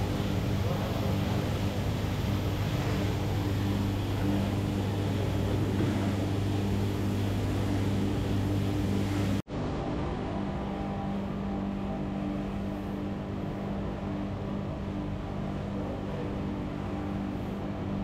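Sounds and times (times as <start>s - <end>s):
coffee roaster mechanical hum: 0.0s - 18.0s.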